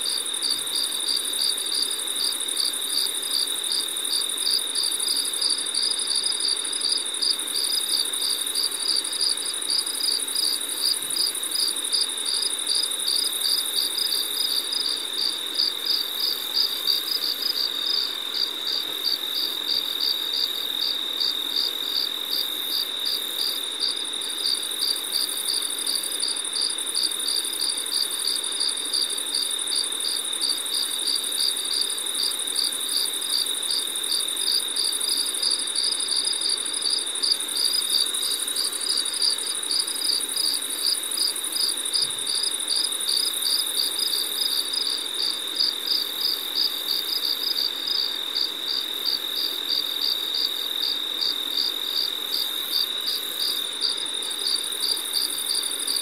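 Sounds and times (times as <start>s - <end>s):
insect chirp pulsing: 0.0s - 56.0s.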